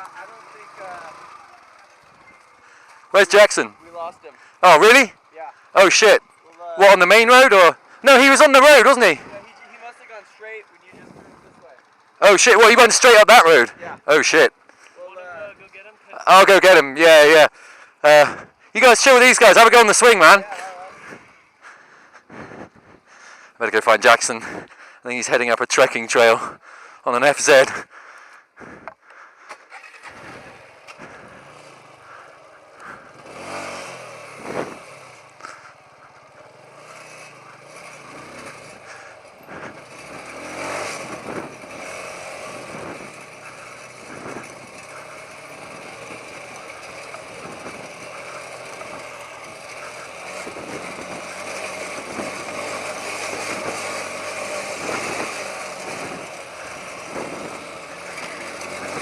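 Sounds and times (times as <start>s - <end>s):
motorcycle engine on dirt trail: 0.0s - 59.0s.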